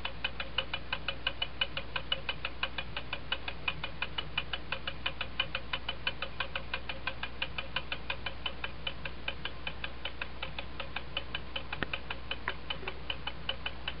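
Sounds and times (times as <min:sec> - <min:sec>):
wall clock ticking: 0:00.0 - 0:14.0.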